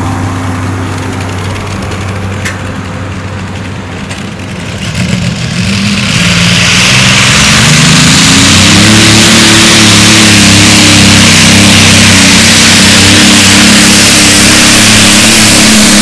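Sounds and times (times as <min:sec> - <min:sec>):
tractor engine revving: 0:00.0 - 0:16.0.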